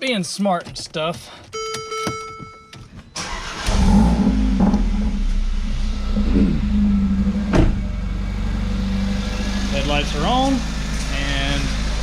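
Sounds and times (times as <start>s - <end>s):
car engine starting and idling: 0.6s - 12.0s.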